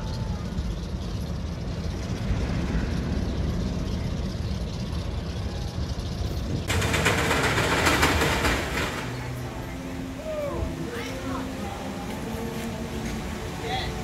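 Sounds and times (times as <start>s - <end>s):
roller coaster rattling hiss: 0.0s - 14.0s
roller coaster rumble: 0.0s - 14.0s.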